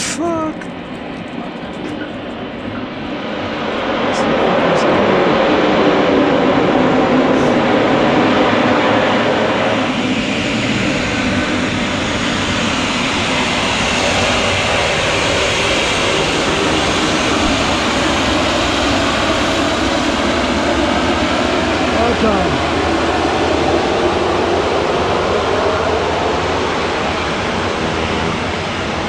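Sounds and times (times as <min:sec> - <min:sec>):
high engine whine: 0:00.0 - 0:29.0
turboprop engines roaring: 0:00.0 - 0:29.0.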